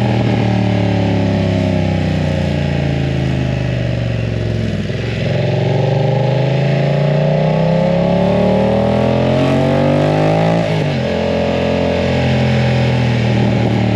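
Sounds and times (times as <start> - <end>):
motorcycle engine accelerating: 0.0 - 13.9.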